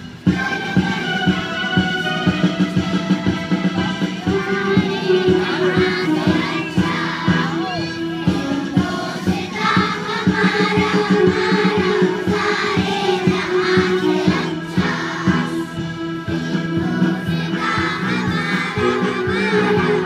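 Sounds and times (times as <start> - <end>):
children's choir singing: 0.0 - 20.0
instrumental accompaniment: 0.0 - 20.0.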